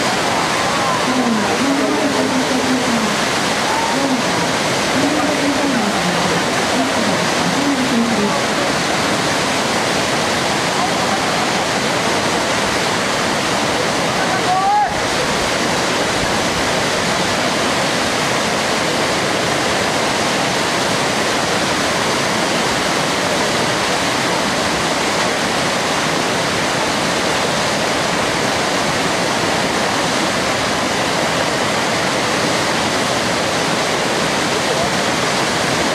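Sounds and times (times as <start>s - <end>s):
whitewater rapids rushing: 0.0s - 35.9s.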